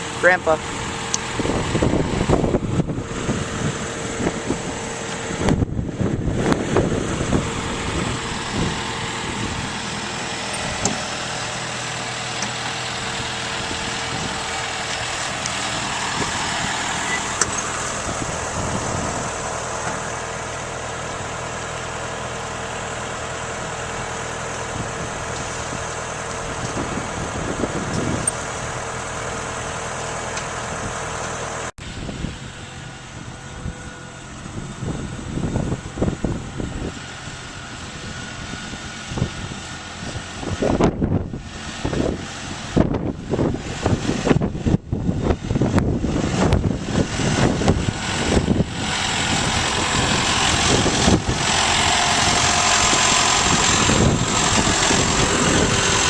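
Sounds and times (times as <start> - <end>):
machinery engine drone: 0.0 - 56.0
steady machine whine: 0.0 - 56.0.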